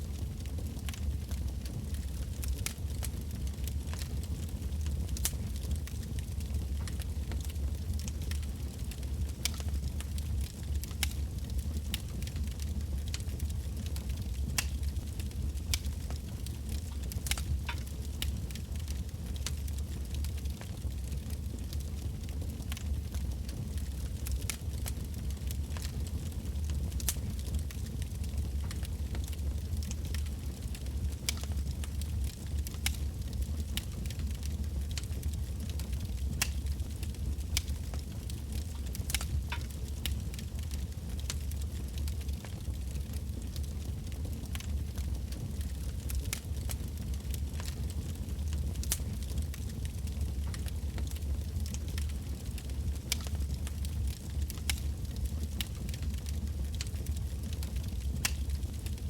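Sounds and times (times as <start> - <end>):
firewood crackling and popping: 0.0 - 59.0
low fire rumble: 0.0 - 59.0.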